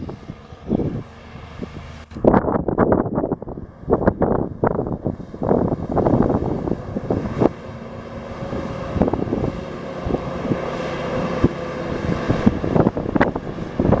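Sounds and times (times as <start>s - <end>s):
diesel truck engine running: 0.0s - 14.0s
wind on microphone: 0.0s - 14.0s.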